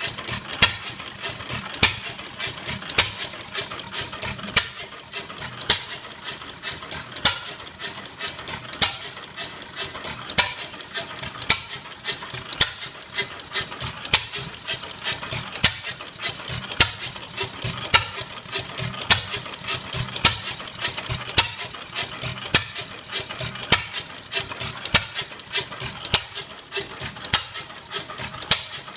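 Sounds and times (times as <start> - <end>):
gas engine clicking and knocking: 0.0 - 28.9.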